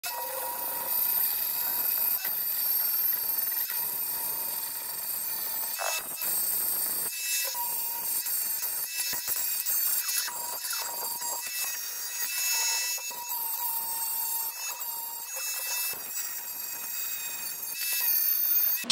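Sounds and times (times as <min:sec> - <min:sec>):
angle grinder cutting steel: 0:00.0 - 0:18.9.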